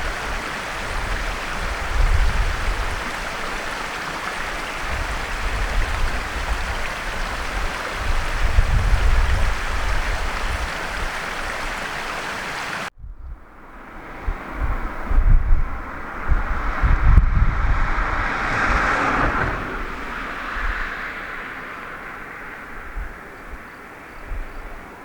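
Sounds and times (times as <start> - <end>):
running water rushing: 0.0 - 12.9, 13.6 - 25.0.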